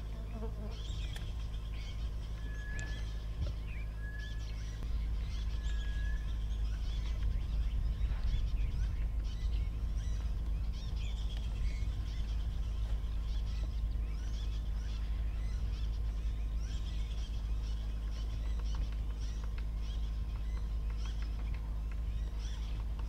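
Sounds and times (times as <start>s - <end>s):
birds chirping: 0.0s - 23.0s
low rumble: 0.0s - 23.0s.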